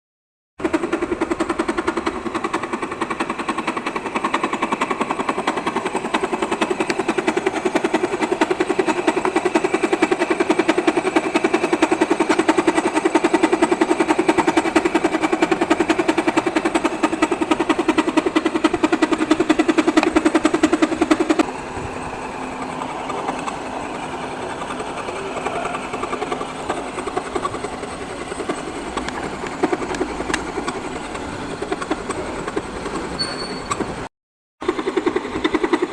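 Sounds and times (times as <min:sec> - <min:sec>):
milling machine cutting chatter: 0:00.6 - 0:35.9.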